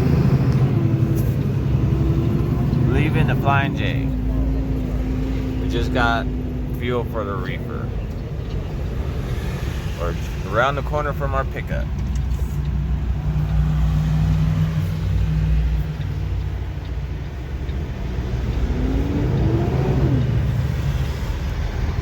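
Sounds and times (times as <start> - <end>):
diesel truck engine driving: 0.0 - 22.0.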